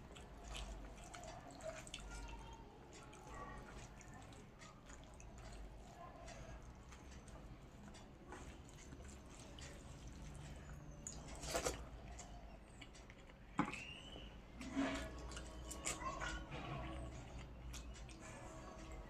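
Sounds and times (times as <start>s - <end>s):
person chewing and lip smacking: 0.0s - 14.3s, 15.2s - 19.0s.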